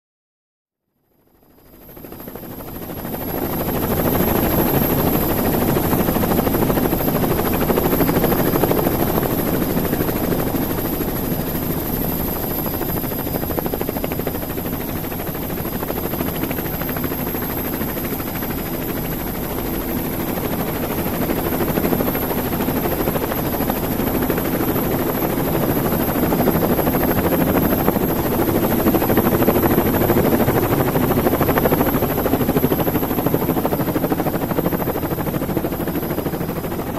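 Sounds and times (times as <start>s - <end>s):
helicopter motor and rotors whirring: 1.6s - 36.9s.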